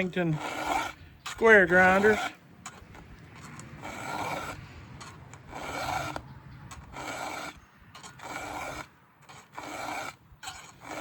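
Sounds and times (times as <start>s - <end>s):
file rasping on chainsaw chain: 0.0s - 11.0s.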